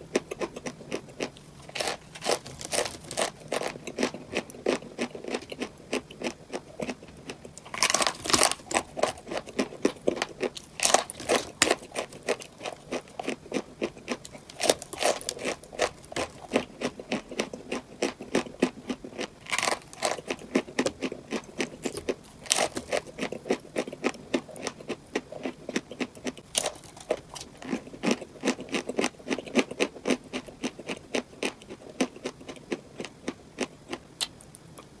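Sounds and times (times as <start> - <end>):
crunchy chewing: 0.0 - 35.0.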